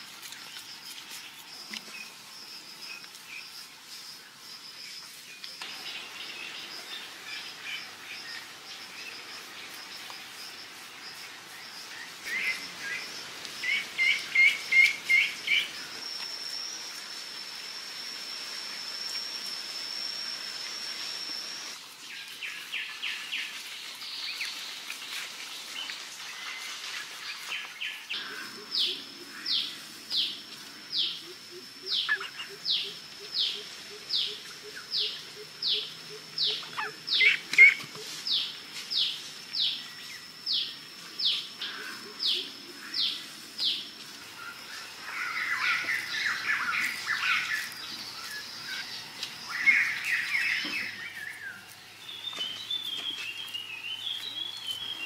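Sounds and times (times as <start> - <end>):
forest birds chirping and calling: 0.0 - 16.8, 20.6 - 55.0.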